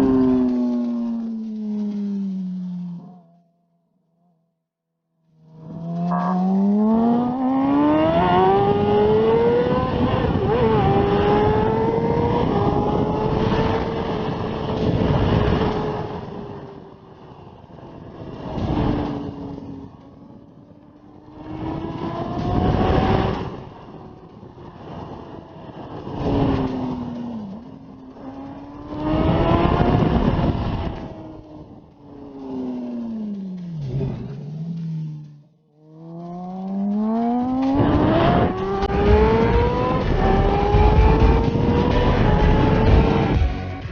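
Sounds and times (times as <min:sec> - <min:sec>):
motorcycle engine revving: 0:05.3 - 0:17.1, 0:18.1 - 0:24.5, 0:25.4 - 0:43.9.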